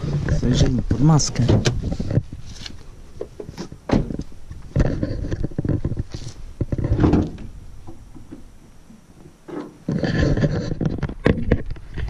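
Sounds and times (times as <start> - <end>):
thumps and rustles: 0.0 - 12.0.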